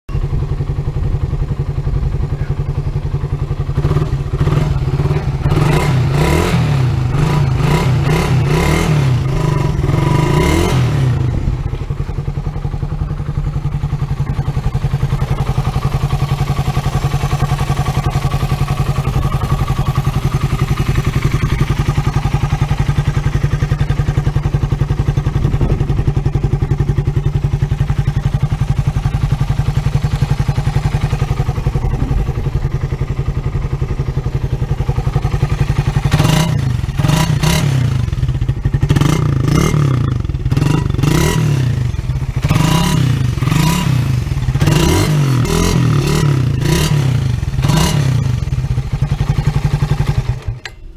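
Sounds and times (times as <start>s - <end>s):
motorcycle engine idling and revving: 0.1s - 50.9s.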